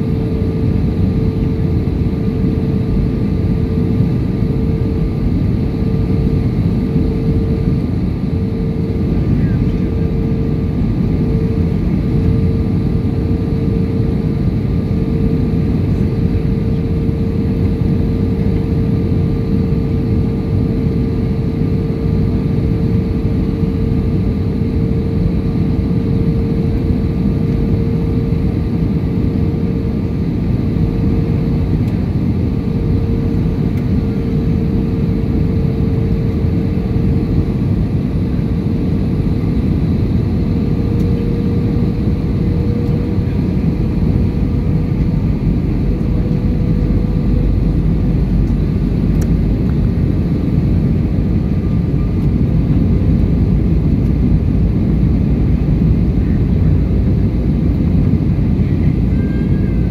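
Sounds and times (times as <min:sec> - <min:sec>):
aircraft cabin engine rumble: 0:00.0 - 0:59.9
constant hum: 0:00.0 - 0:59.9.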